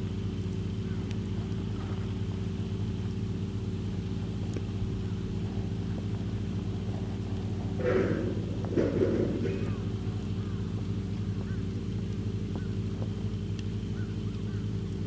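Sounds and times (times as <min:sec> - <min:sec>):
campfire crackles: 0:00.0 - 0:15.0
engine idling hum: 0:00.0 - 0:15.0.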